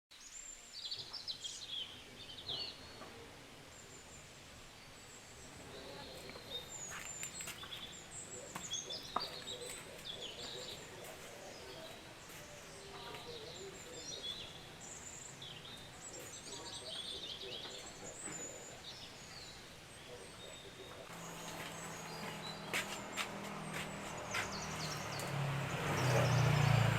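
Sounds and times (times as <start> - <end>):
outdoor background noise: 0.1 - 26.9
small birds chirping and singing: 0.1 - 26.9.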